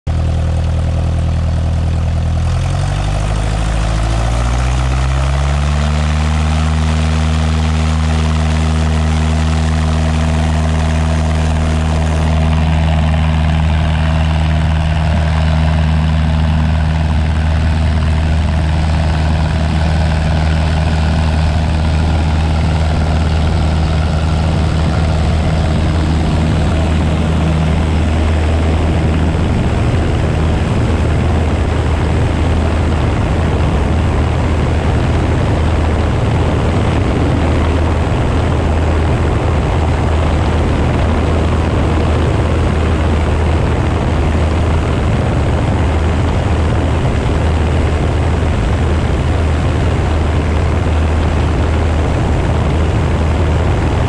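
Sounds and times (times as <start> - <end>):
propeller aircraft engine droning: 0.0 - 54.0.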